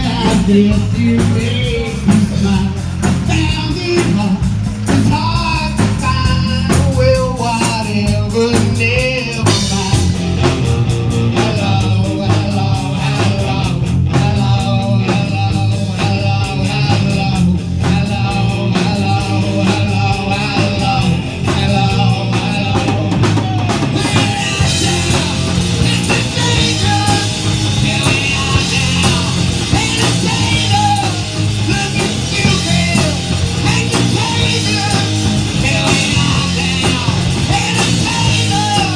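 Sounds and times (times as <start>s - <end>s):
man singing into a microphone: 0.0s - 10.4s, 11.1s - 38.9s
drum kit: 0.0s - 38.9s
electric guitar: 0.0s - 38.9s.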